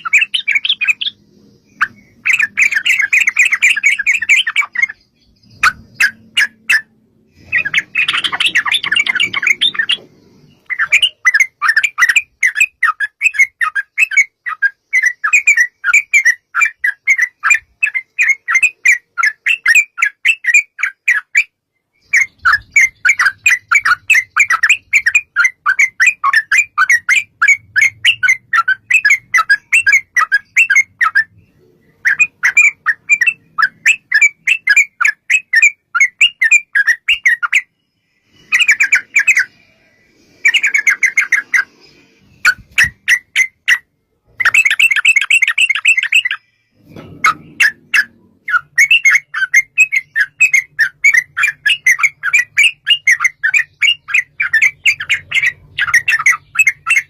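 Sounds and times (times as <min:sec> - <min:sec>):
bulbul chattering: 0:00.0 - 0:21.4, 0:22.0 - 0:57.0.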